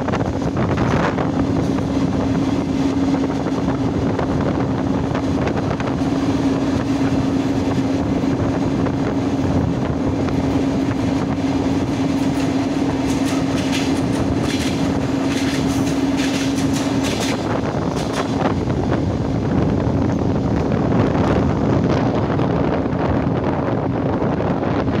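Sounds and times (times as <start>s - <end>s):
train hum: 0.0s - 25.0s
train wheels rumbling on rail: 0.0s - 25.0s.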